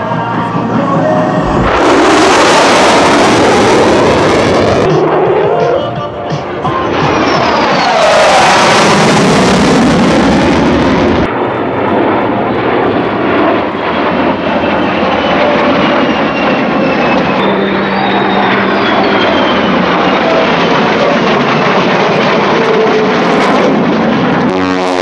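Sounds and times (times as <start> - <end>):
jet engines passing overhead: 0.0 - 25.0
harsh jet roar: 1.4 - 5.6, 6.8 - 25.0.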